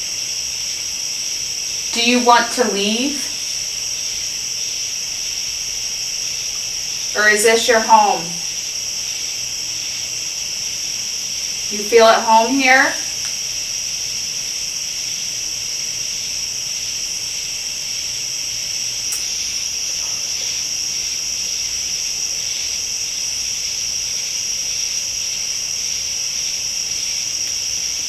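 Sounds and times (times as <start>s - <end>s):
insects trilling chorus: 0.0s - 28.0s.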